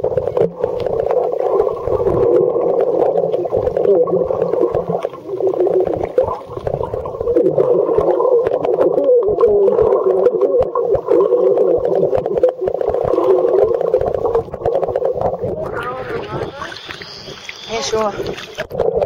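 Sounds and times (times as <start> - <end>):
underwater hum: 0.0 - 19.0
water clicks and bubbles: 0.0 - 19.0.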